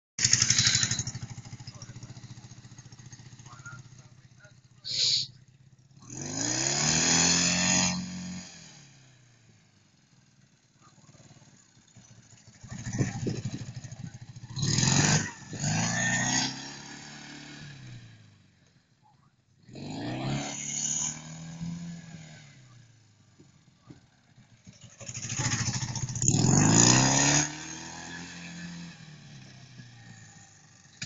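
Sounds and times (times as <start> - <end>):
motorcycle engine revving: 0.2 - 31.0.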